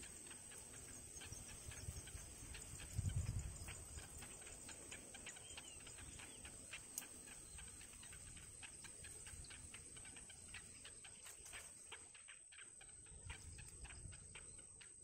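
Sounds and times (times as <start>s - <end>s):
nestlings ticking calls: 0.0s - 15.0s.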